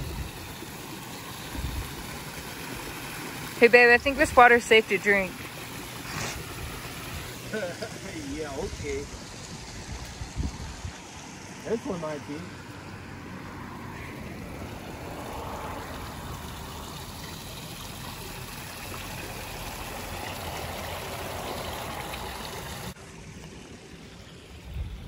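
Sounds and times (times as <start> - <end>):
running water flowing: 0.0 - 25.0.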